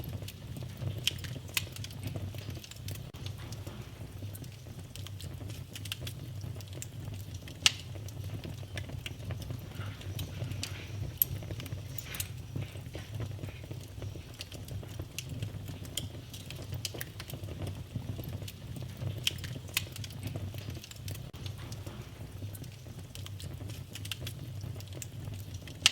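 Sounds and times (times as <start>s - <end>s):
wood fire rumbling and crackling: 0.0s - 25.9s.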